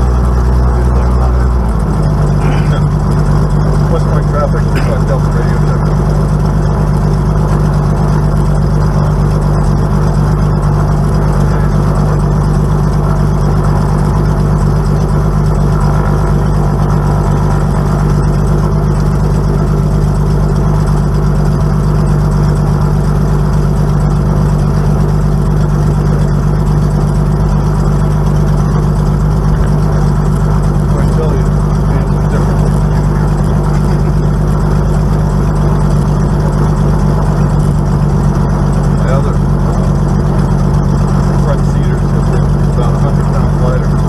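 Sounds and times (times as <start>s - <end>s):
aircraft piston engine and propeller: 0.0s - 44.0s.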